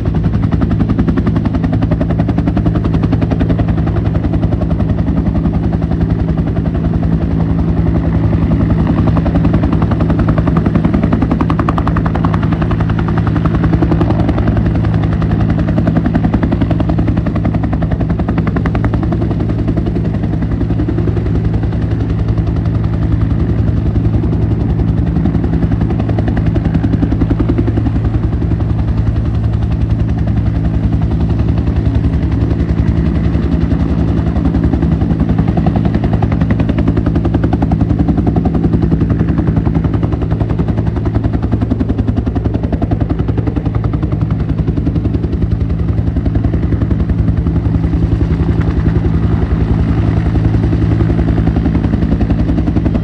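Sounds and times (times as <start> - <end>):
helicopter rotor beat: 0.0 - 53.0.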